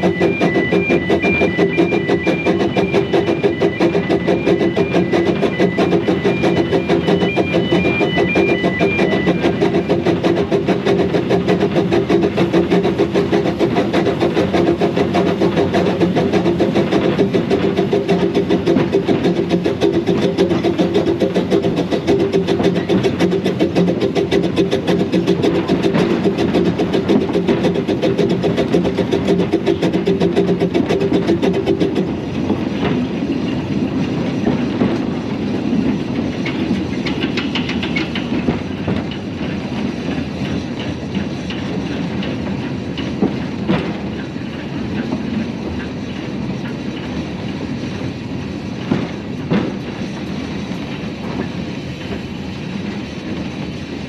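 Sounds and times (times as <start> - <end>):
clicks over rail joints: 0.0 - 53.5
steam locomotive chuffing: 0.0 - 54.0
wheels clattering on rails: 0.0 - 54.0.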